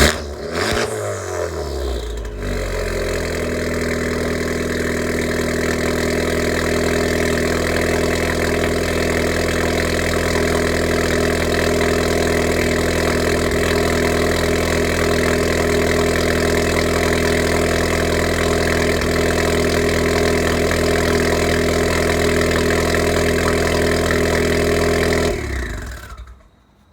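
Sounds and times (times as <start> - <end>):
car engine idling: 0.0 - 26.5.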